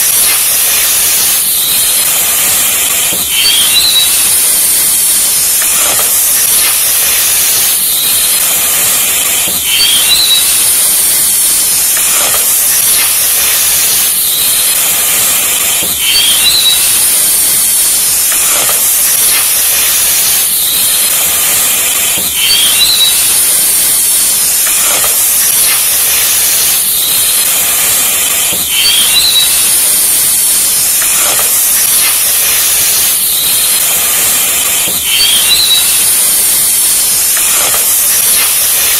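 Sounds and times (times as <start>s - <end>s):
hissing sizzle: 0.0s - 38.9s.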